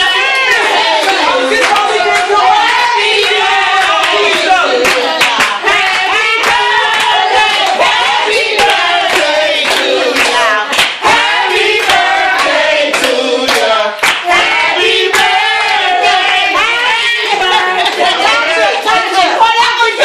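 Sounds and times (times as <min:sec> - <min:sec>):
group singing or chanting: 0:00.0 - 0:20.0
people clapping a steady beat: 0:00.0 - 0:20.0.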